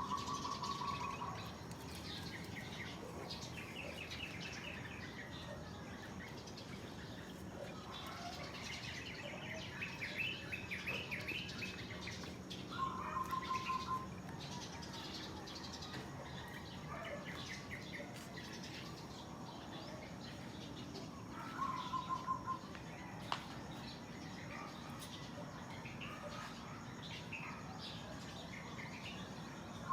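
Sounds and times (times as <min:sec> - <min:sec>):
songbirds chirping: 0:00.0 - 0:29.9.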